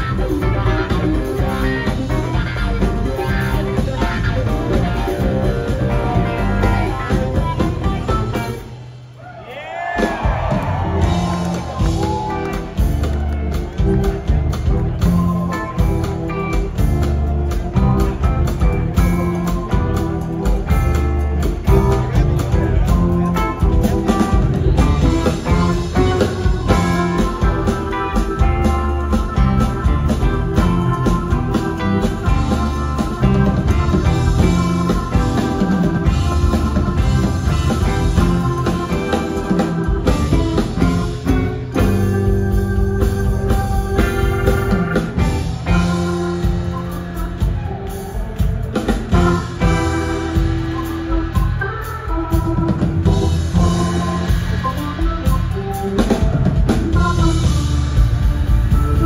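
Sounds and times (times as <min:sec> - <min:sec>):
electric guitar: 0:00.0 - 0:09.0, 0:10.0 - 0:59.0
bass guitar: 0:00.0 - 0:59.0
drums: 0:00.0 - 0:59.0.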